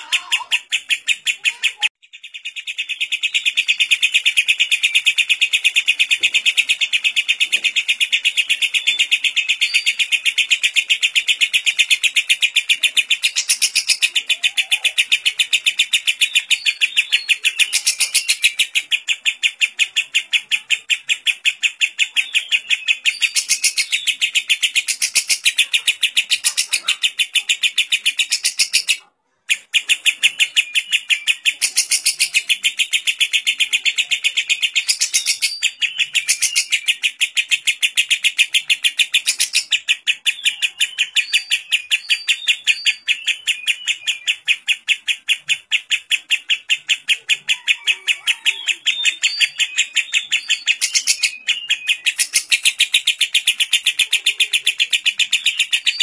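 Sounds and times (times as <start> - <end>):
lovebird chattering trill: 0.0 - 56.0.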